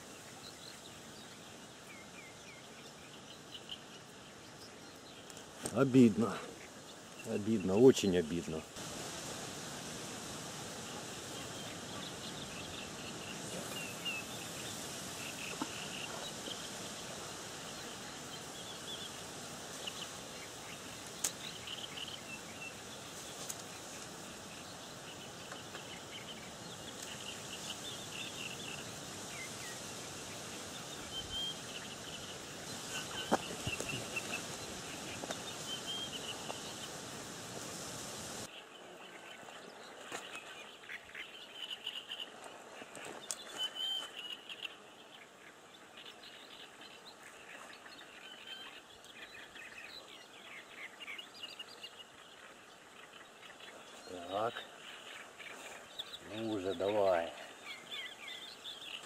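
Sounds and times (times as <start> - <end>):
outdoor background hiss: 0.0 - 59.0
small birds chirping: 0.0 - 59.0.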